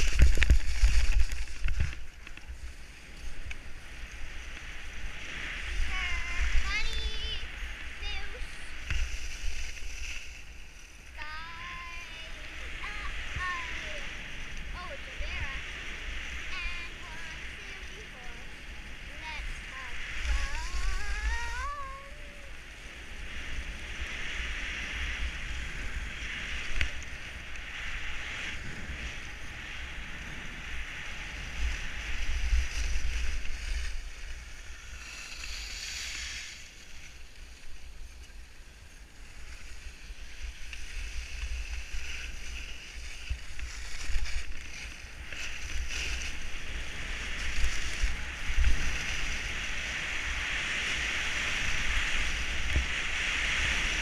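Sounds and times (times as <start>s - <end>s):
skis scraping over snow: 0.0s - 54.0s
wind rumbling on microphone: 0.0s - 54.0s.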